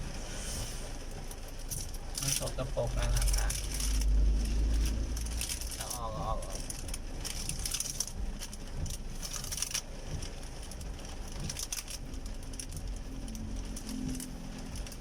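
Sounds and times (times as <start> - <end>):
car cabin rumble: 0.0 - 15.0
objects clicking and rattling: 1.7 - 15.0.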